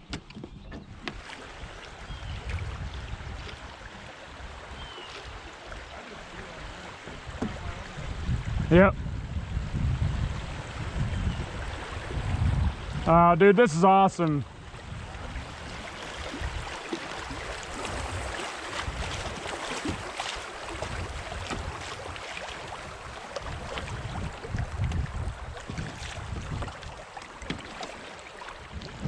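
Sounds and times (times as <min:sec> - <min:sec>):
wind buffeting microphone: 0:00.0 - 0:05.5, 0:06.3 - 0:13.3, 0:14.4 - 0:27.7, 0:28.6 - 0:29.0
creek water rushing over rapids: 0:02.7 - 0:08.4, 0:10.4 - 0:29.0.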